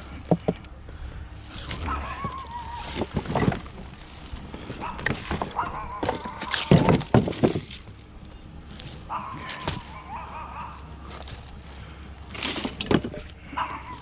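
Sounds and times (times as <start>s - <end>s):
scrap wood clattering: 0.0s - 8.0s, 8.7s - 14.0s
drawn-out squeaky tones: 0.0s - 14.0s.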